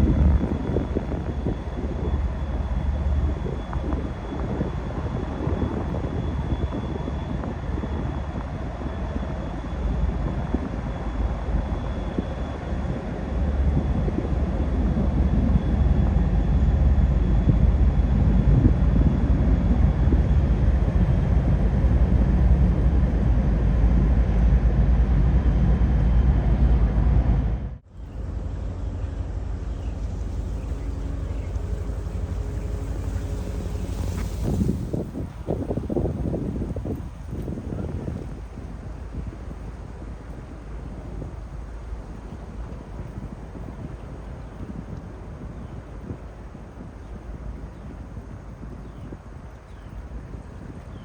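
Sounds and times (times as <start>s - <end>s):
distant engine noise: 0.0s - 51.0s
wind buffeting microphone: 0.0s - 51.0s.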